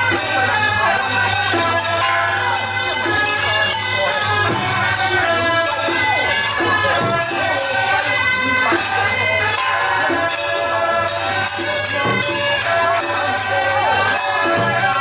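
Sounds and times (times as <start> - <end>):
clashing cymbals and percussion: 0.0 - 15.0.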